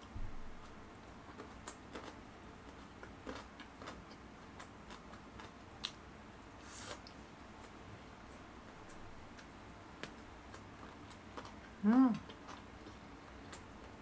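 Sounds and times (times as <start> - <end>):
soft wet chewing clicks: 0.6 - 6.1, 7.0 - 14.0.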